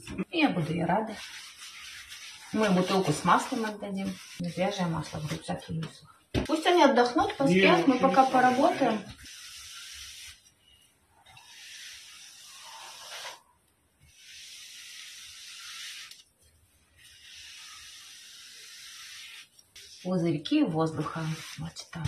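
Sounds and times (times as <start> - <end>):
brush smoothing wall covering: 0.4 - 5.8, 6.6 - 22.0.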